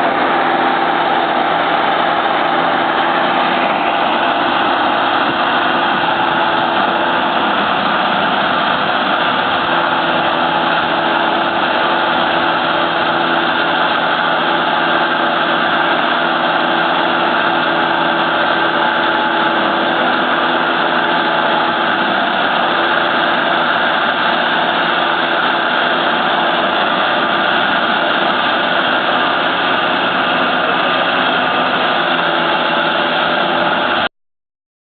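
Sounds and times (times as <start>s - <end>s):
harvester machinery droning: 0.0s - 34.1s.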